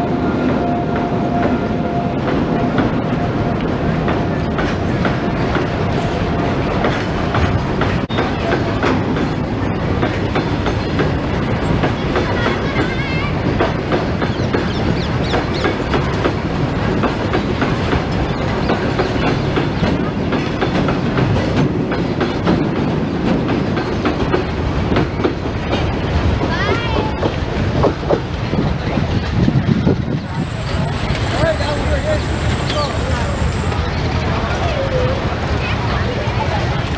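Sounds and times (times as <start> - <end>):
freight train wheels clacking: 0.0 - 36.9
train rumble: 0.0 - 36.9.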